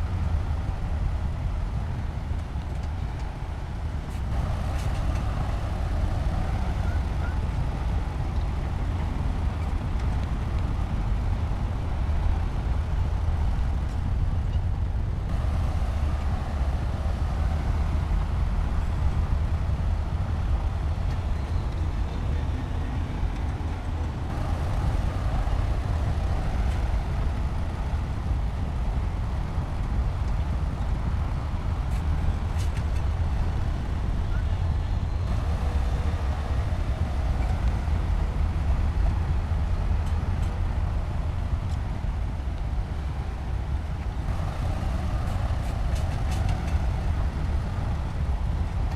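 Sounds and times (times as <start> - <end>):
diesel machinery engine rumble: 0.0 - 48.9.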